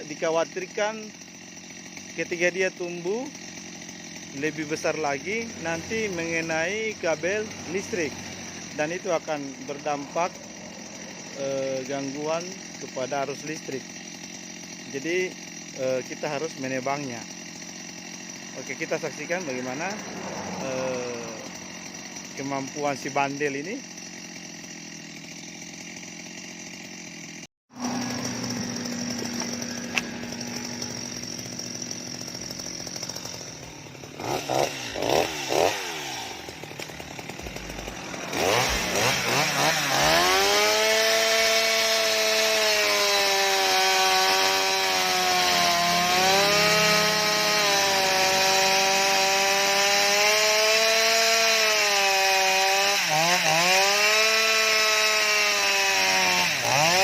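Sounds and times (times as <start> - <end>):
chainsaw cutting wood: 0.0 - 57.0
chainsaw engine revving: 0.0 - 57.0.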